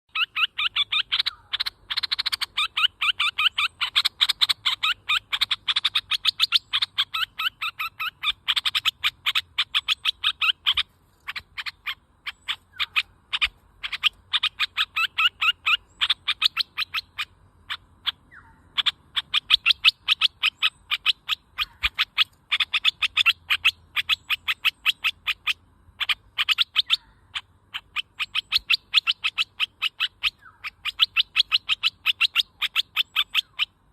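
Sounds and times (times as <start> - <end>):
bulbul calling: 0.1 - 33.9.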